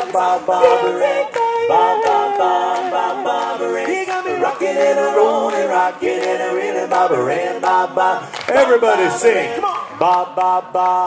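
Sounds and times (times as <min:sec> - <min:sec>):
vocal group singing harmony: 0:00.0 - 0:11.0.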